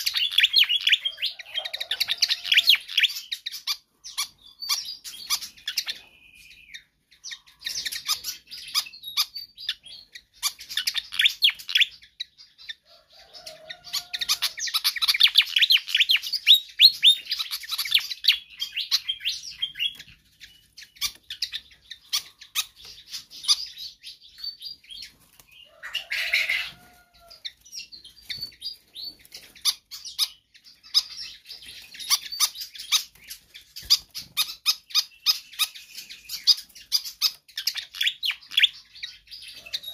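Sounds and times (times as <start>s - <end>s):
bird rapid high chirps and trills: 0.0s - 12.8s, 13.9s - 39.9s.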